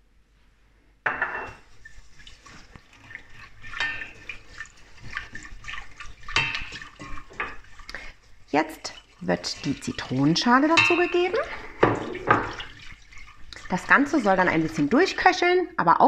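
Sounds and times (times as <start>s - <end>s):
whisk clattering against pot: 1.2s - 15.7s
liquid sloshing: 1.4s - 15.8s.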